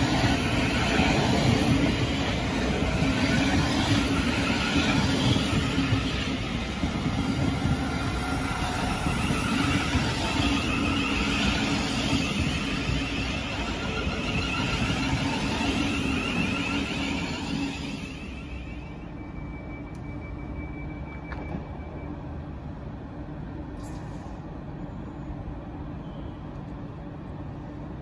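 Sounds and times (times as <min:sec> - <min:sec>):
train wheels rushing on rail: 0:00.0 - 0:28.0.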